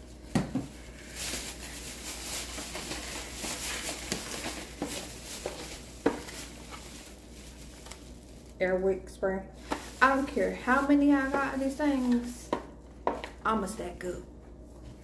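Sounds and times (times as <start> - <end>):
plastic bag rustling: 0.0 - 12.6.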